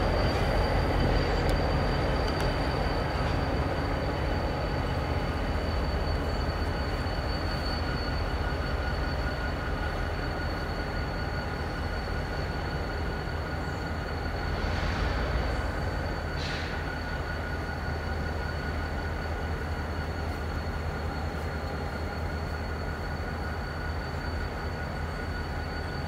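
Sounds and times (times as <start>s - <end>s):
diesel locomotive rumble: 0.0s - 26.0s.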